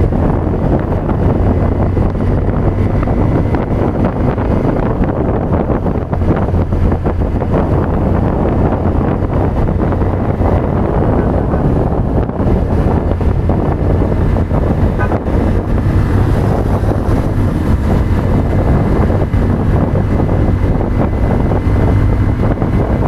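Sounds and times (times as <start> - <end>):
motorcycle engine droning: 0.0 - 23.0
wind rushing over microphone: 0.0 - 23.0.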